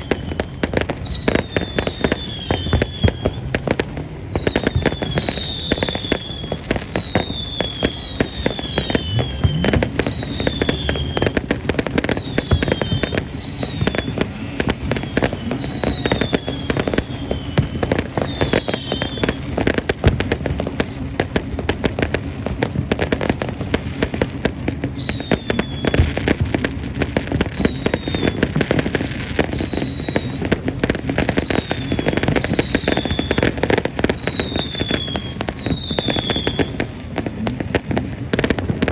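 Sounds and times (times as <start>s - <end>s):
fireworks crackling bangs: 0.0s - 38.9s
whistling fireworks: 0.0s - 38.9s.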